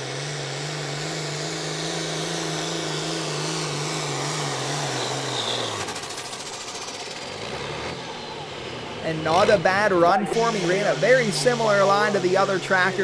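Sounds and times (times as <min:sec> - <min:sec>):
diesel tractor engine at high revs: 0:00.0 - 0:13.0.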